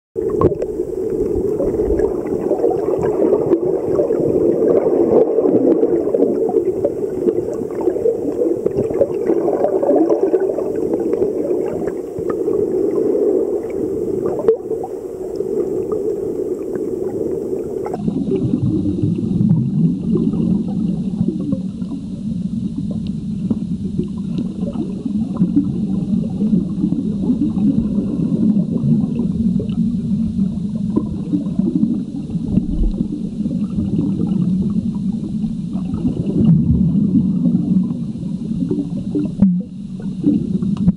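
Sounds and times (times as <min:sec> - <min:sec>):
muffled underwater rumble: 0:00.2 - 0:40.9.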